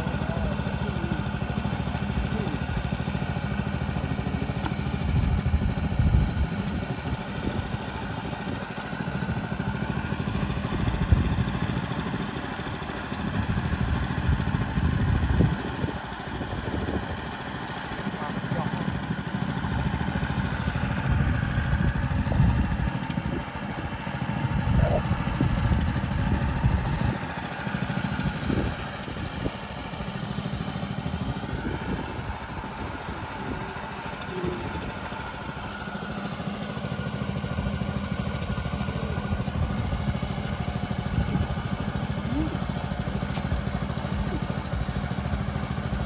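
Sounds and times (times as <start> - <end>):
small engine driving water pump: 0.0 - 46.0.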